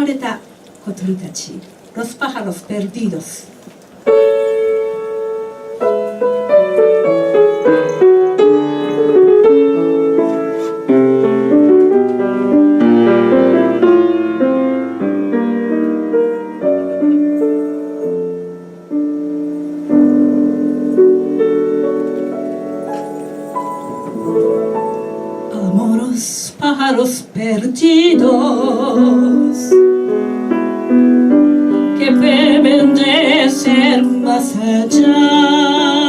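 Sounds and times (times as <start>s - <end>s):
solo piano playing: 3.8s - 36.0s.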